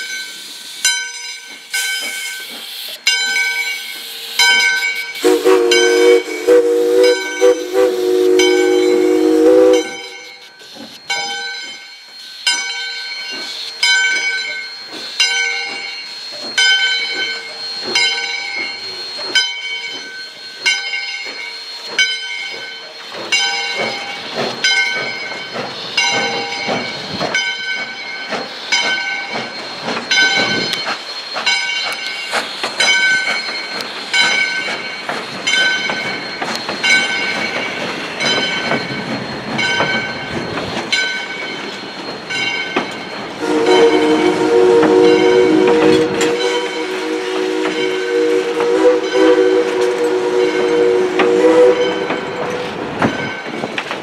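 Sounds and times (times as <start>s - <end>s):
steam locomotive bell ringing: 0.0s - 54.0s
train coaches rumbling past: 0.0s - 54.0s.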